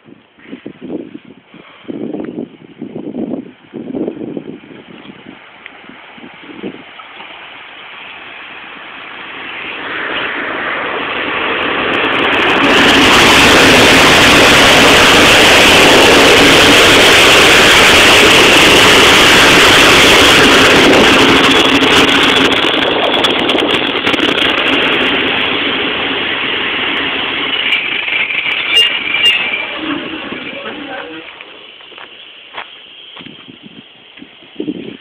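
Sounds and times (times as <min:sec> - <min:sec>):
passenger train rolling past: 0:00.0 - 0:35.0.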